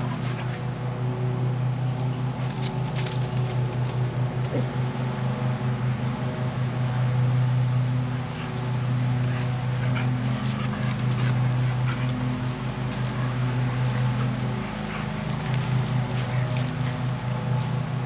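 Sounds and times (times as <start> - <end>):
small engine humming: 0.0 - 18.0.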